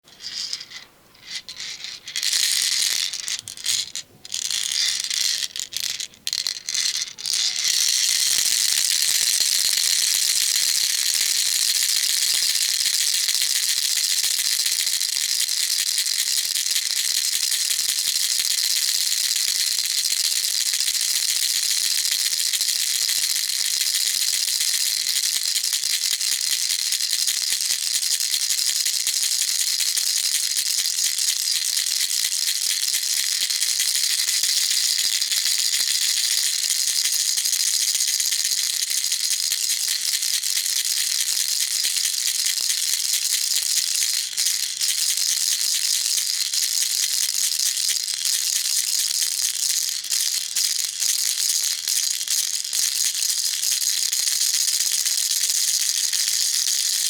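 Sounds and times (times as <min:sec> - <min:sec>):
baby rattle shaking: 0:00.0 - 0:57.0.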